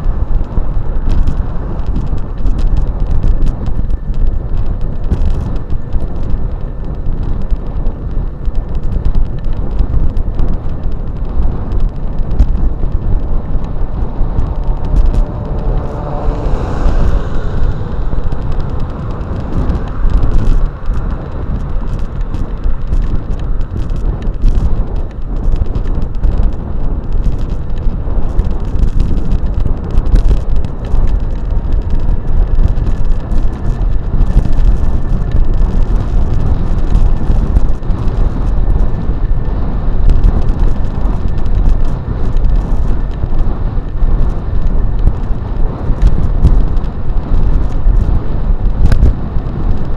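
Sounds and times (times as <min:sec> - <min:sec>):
bike rattling over bumps: 0:00.0 - 0:49.9
wind rumble on microphone: 0:00.0 - 0:49.9.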